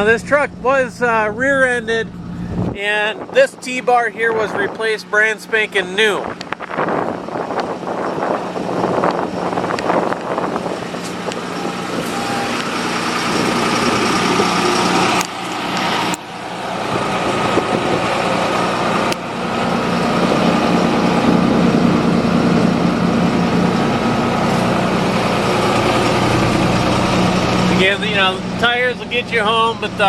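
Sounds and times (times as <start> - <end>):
truck engine idling: 3.6 - 30.0.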